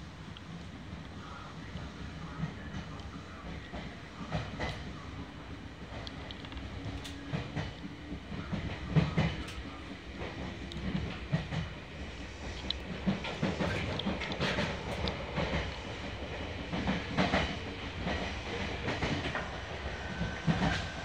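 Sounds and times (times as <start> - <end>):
train wheels rumbling on rail: 0.0 - 21.0
train car clacking and rattling: 0.3 - 21.0.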